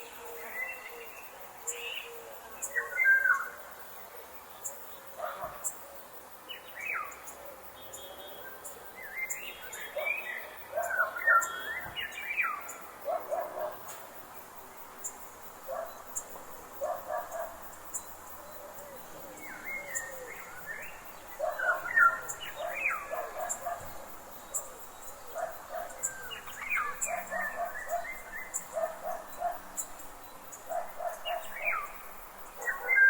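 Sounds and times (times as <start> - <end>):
forest birds calling: 0.0 - 3.7, 4.4 - 33.0.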